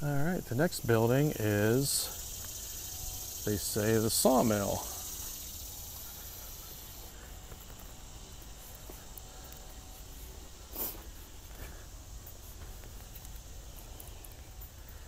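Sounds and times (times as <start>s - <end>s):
high insect chirps: 0.0s - 15.0s
low rumble and hiss: 0.0s - 15.0s.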